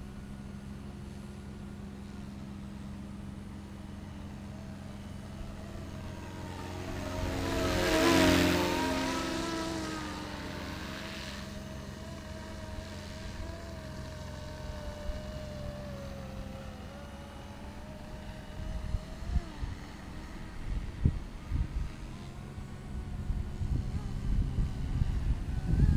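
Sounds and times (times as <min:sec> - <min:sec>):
model helicopter whine: 0:00.0 - 0:25.9.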